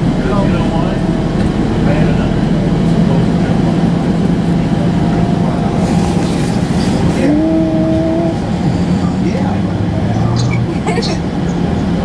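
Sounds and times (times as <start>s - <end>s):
bus engine drone: 0.0s - 12.0s
road noise: 0.0s - 12.0s.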